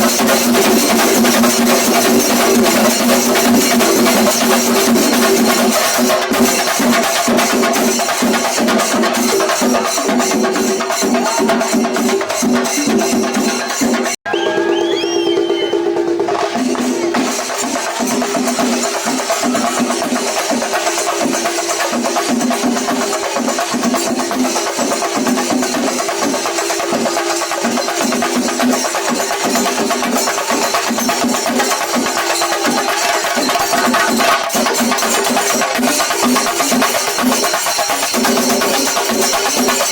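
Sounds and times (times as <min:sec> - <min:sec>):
drums playing fast rhythm: 0:00.0 - 0:39.9
hand cymbals: 0:00.0 - 0:39.9.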